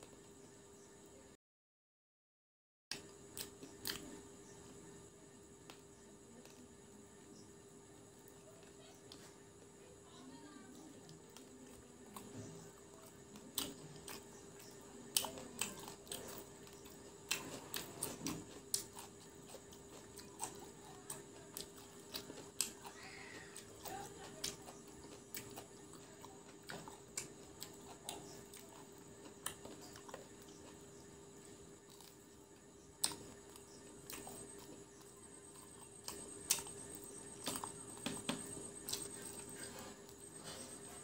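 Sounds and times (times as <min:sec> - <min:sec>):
chewing and crunching fried food: 0:02.9 - 0:41.0
faint hum: 0:02.9 - 0:41.0.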